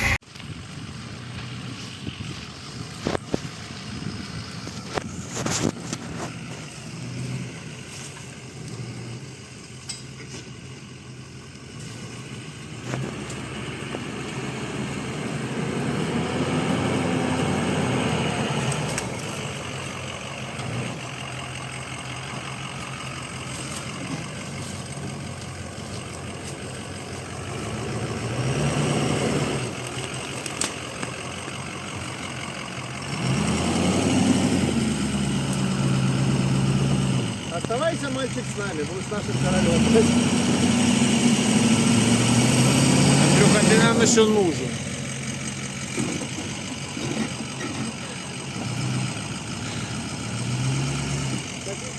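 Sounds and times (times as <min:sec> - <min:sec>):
vehicle engine revving: 0:00.0 - 0:51.9.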